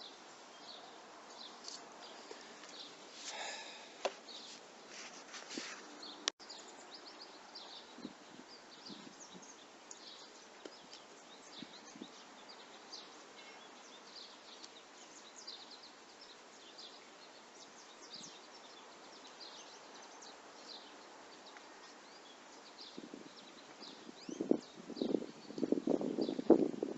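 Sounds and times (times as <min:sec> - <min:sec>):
birds chirping: 0:00.0 - 0:26.9
faint steady hiss: 0:00.0 - 0:26.9.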